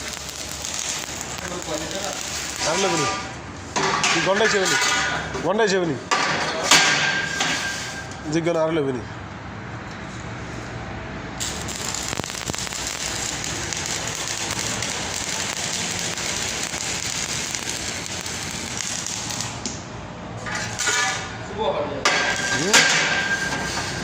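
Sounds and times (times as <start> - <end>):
arc welding crackle: 0.0 - 5.2, 6.9 - 8.2, 10.5 - 21.4, 22.1 - 24.0.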